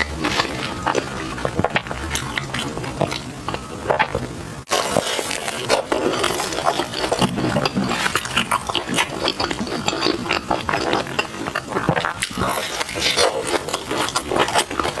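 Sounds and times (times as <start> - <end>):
chewing sticky rice: 0.0 - 15.0.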